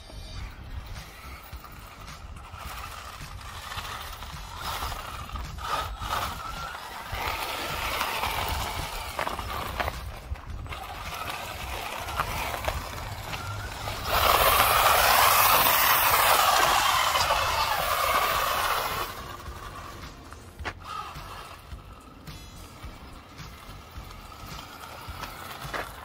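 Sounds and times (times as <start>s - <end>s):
electric motor whining: 0.0s - 26.0s
tyres scrabbling over snow: 0.0s - 26.0s.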